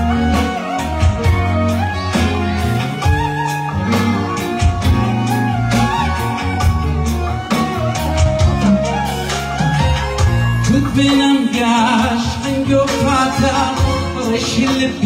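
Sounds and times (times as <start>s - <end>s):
bass: 0.0s - 15.0s
drum beat: 0.0s - 15.0s
guitar lead melody: 0.0s - 15.0s.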